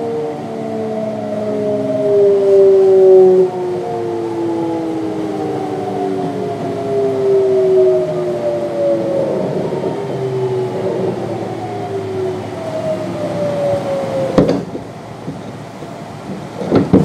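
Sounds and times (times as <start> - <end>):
train inverter whining: 0.0 - 17.0.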